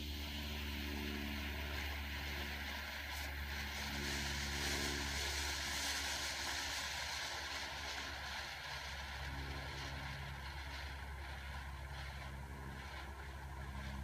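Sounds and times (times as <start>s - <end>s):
low rumble: 0.0s - 14.0s
smoke firework hissing: 0.0s - 14.0s.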